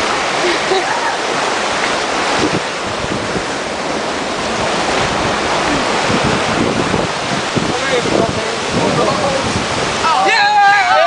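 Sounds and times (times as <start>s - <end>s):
churning white water: 0.0s - 11.0s
wind buffeting microphone: 0.0s - 11.0s.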